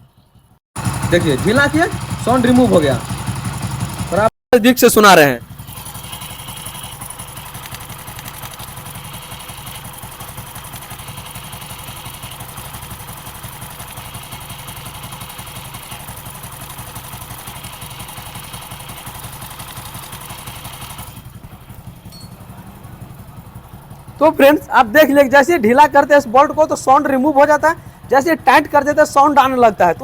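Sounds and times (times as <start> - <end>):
motorcycle engine idling: 0.0 - 4.3, 5.0 - 30.0.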